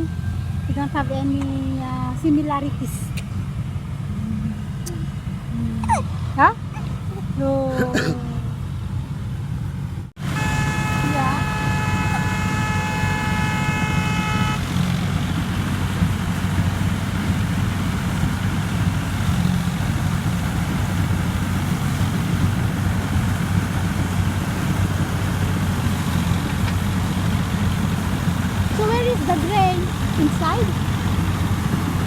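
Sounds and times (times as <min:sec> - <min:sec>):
harvester engine humming: 0:00.0 - 0:32.0.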